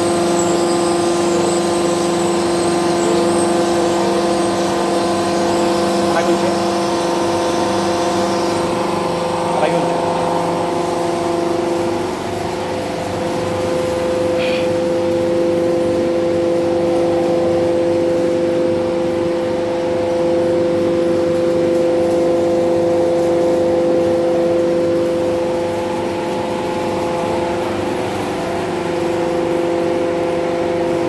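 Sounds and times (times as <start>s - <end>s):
machinery humming: 0.0s - 31.0s.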